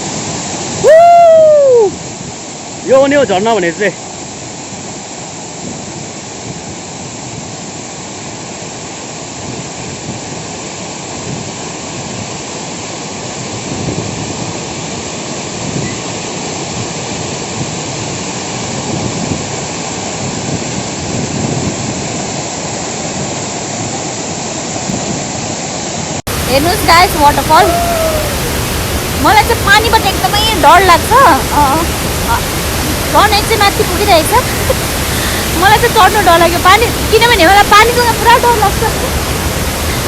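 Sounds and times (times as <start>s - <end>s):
waterfall rushing: 0.0s - 13.7s, 14.4s - 40.0s.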